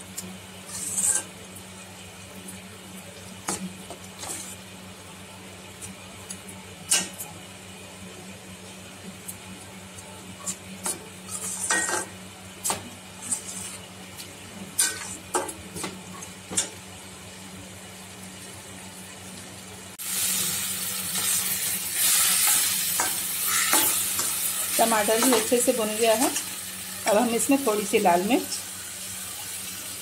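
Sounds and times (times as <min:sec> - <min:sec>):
food sizzling: 0:00.1 - 0:30.0.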